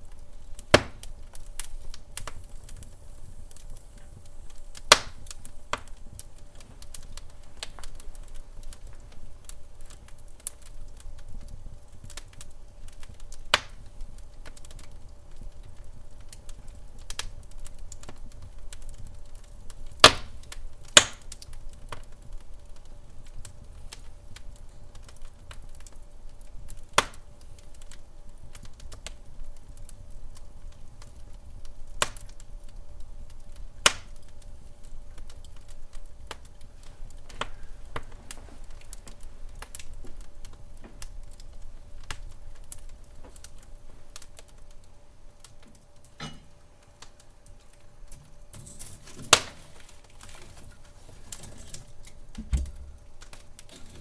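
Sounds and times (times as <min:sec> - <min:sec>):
faint steady hum: 0:00.0 - 0:54.0
wood fire crackling and popping: 0:00.0 - 0:54.0.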